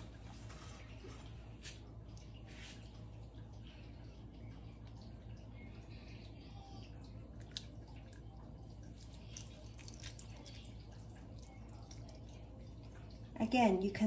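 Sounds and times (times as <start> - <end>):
gravy trickling and dripping: 0.0 - 14.0.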